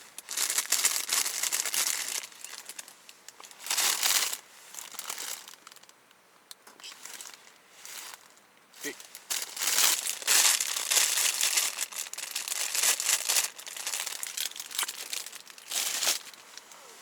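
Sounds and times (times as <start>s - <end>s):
wrapper crinkling: 0.0s - 5.9s, 7.0s - 16.8s.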